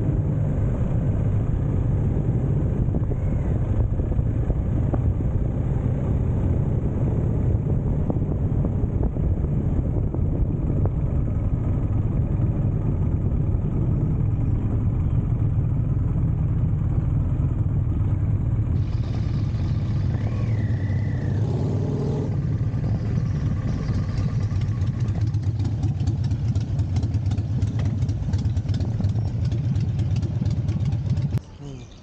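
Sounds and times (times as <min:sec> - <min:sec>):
motorcycle engine running: 0:00.0 - 0:31.5.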